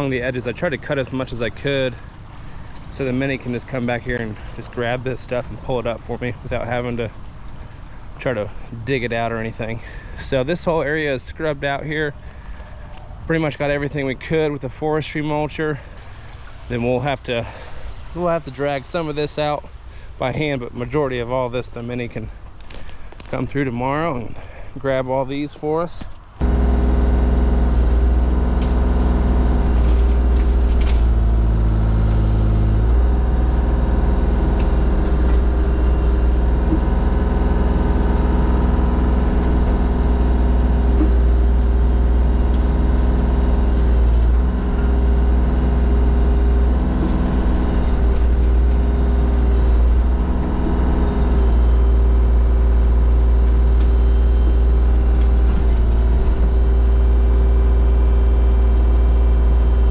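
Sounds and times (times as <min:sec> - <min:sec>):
forestry mulcher engine running: 0:00.0 - 0:08.7, 0:15.8 - 0:59.9.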